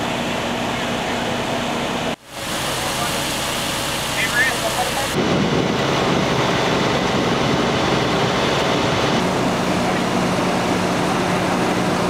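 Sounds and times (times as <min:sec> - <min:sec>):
engines droning: 0:00.0 - 0:12.0.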